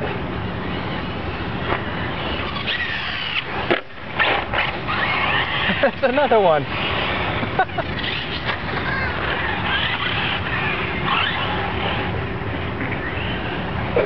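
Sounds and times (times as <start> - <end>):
rc car motors revving: 0.0 - 14.0
steady rushing noise: 0.0 - 14.0.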